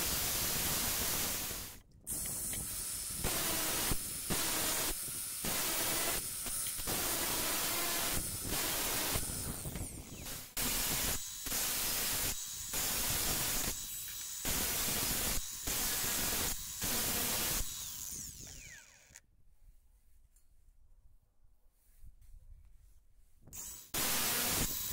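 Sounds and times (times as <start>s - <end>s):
angle grinder cutting metal: 0.0s - 19.2s, 23.6s - 24.9s.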